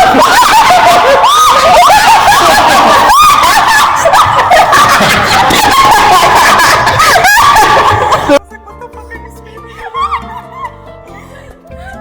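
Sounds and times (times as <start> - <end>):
high voices laughing and squealing: 0.0 - 8.5, 9.6 - 12.0.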